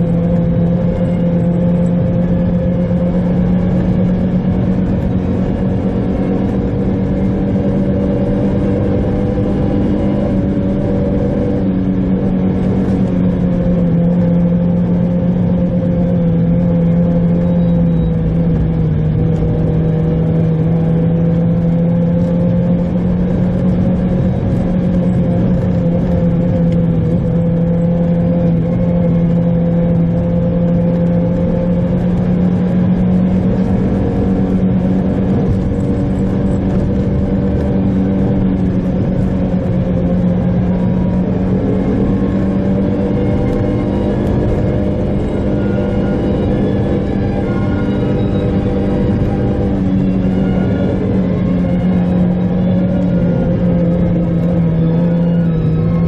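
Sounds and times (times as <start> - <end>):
car engine humming: 0.0 - 56.0
tyres rumbling on snow: 0.0 - 56.0.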